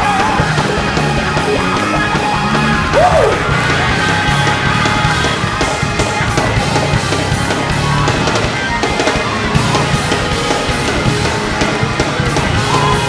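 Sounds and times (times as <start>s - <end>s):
loud live band music: 0.0s - 13.0s.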